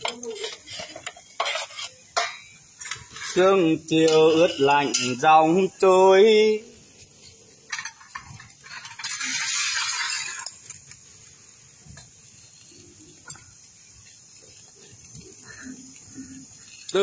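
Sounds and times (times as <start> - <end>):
meat hissing on grill: 0.0 - 17.0.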